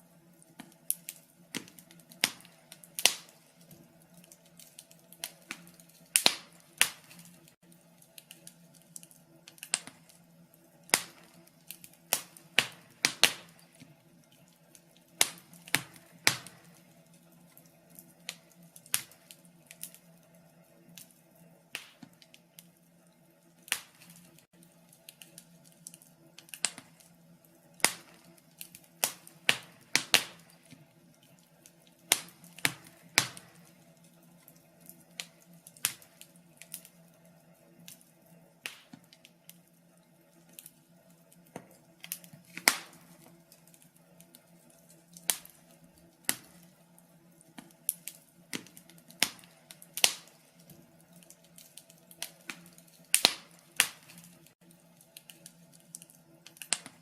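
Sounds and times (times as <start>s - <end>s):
faint steady hum: 0.0s - 57.0s
wood fire crackling: 0.0s - 57.0s
fire pops and snaps: 0.3s - 22.8s, 23.4s - 57.0s.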